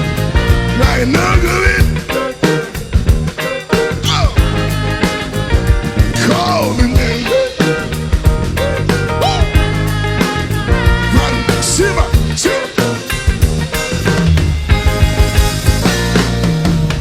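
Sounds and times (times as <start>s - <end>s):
heavy low bass notes: 0.0s - 17.0s
sliding lead guitar line: 0.0s - 17.0s
steady drum beat: 0.0s - 17.0s.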